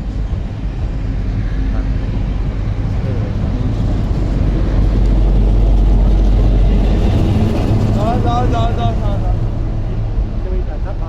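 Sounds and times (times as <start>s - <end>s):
train rumbling by: 0.0s - 11.0s.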